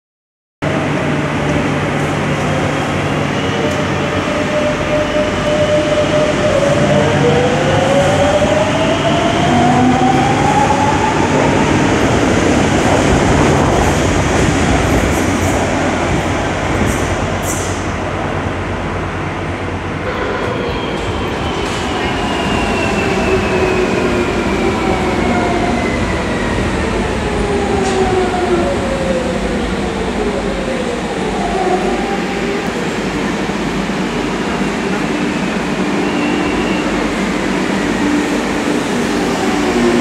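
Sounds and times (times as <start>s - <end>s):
steady train tone: 0.6s - 40.0s
train cars rumbling on rails: 0.6s - 40.0s.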